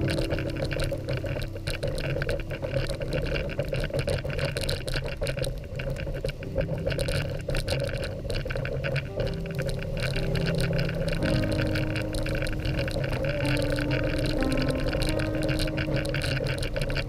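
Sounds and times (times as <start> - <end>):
sled clicks and rattles: 0.0 - 17.0.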